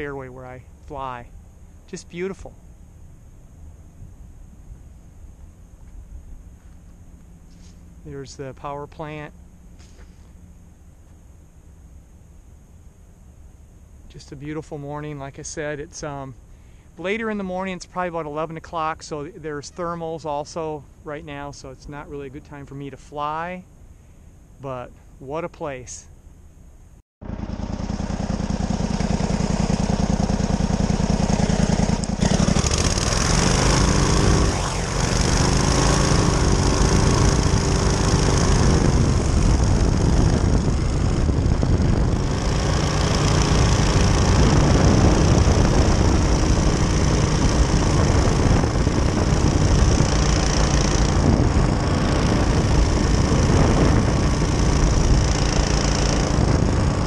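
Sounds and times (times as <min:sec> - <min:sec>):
engine and propeller running: 0:00.0 - 0:24.3, 0:27.2 - 0:57.0.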